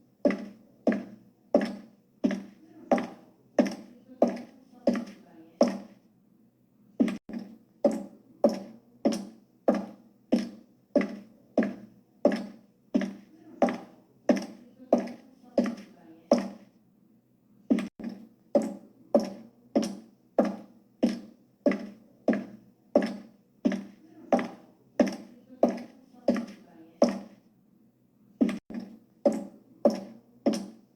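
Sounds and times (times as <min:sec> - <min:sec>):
high heels clicking on floor: 0:00.3 - 0:06.0, 0:07.0 - 0:16.7, 0:17.7 - 0:27.4, 0:28.4 - 0:30.9.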